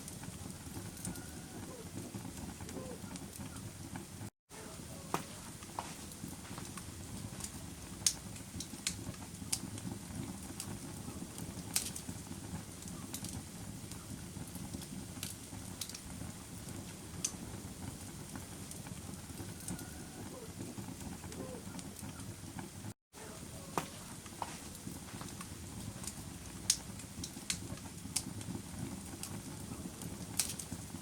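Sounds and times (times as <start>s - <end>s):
burning wood crackling and popping: 0.0s - 31.0s
low rumble of flames: 0.0s - 31.0s.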